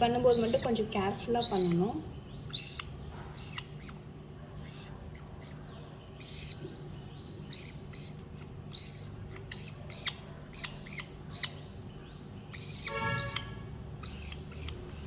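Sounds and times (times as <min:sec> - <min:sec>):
bird chick chirping: 0:00.1 - 0:15.0.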